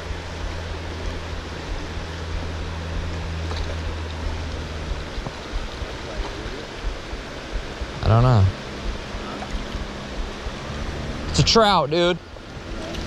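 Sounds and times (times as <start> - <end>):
low steady hum: 0.0 - 13.0
river current rushing: 0.0 - 13.0.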